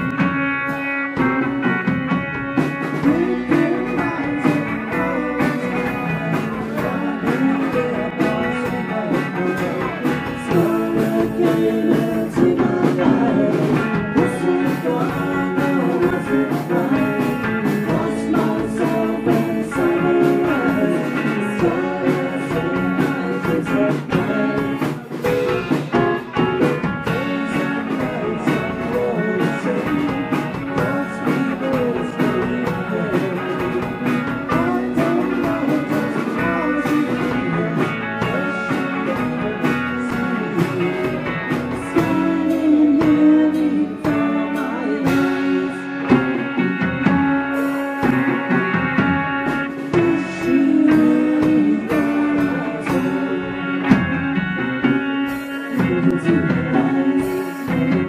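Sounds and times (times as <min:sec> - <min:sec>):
bass guitar: 0:00.0 - 0:58.0
combo organ: 0:00.0 - 0:58.0
drum kit: 0:00.0 - 0:58.0
electric guitar: 0:00.0 - 0:58.0.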